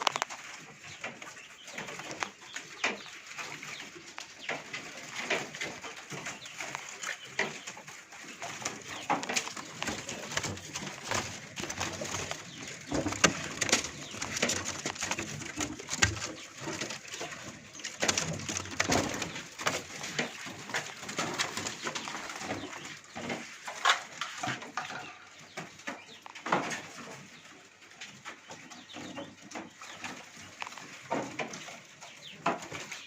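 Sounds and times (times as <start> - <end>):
caged birds chirping: 0.0 - 33.0.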